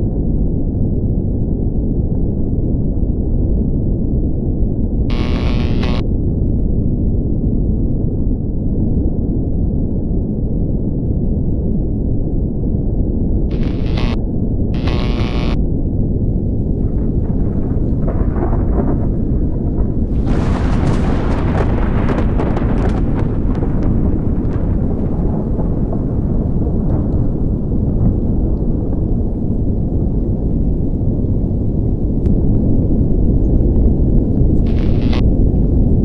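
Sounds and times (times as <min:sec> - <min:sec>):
deep rumble: 0:00.0 - 0:36.0.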